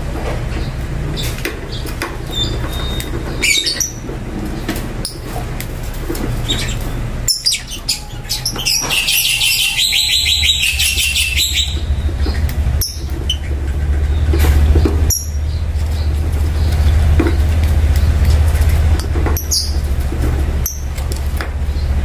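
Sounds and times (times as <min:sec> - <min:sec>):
birds chirping: 0:00.3 - 0:22.0.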